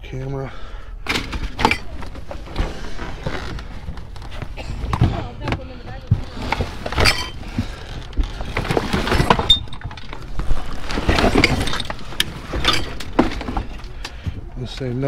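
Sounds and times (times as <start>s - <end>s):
knocks of hard objects: 1.1s - 14.5s
rustling: 1.1s - 15.0s.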